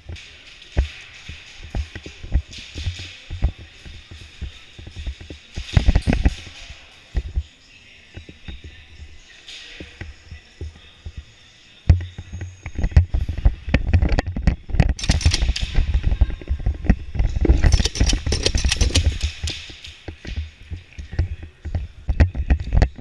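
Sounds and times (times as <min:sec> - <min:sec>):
knocks and clatter: 0:00.0 - 0:07.4, 0:11.9 - 0:23.0.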